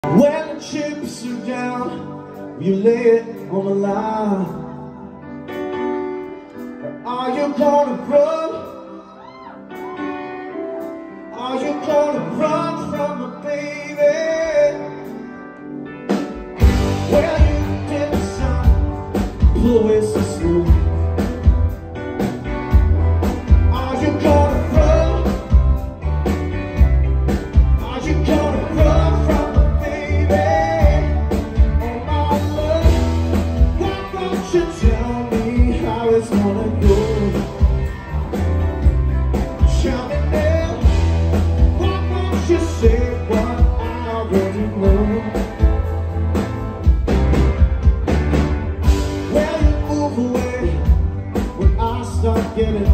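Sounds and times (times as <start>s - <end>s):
rock and roll band playing: 0.0s - 52.9s.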